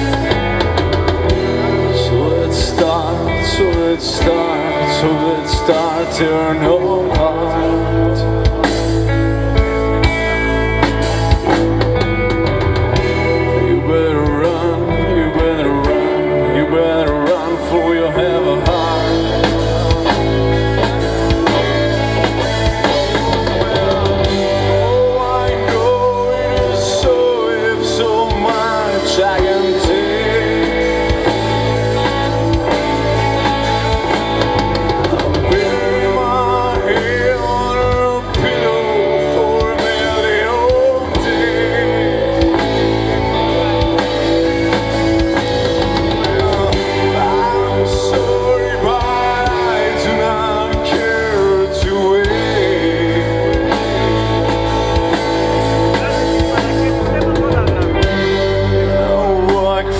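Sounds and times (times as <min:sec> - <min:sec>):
live rock band playing loudly: 0:00.0 - 0:59.9
wavering lead melody: 0:00.0 - 0:59.9.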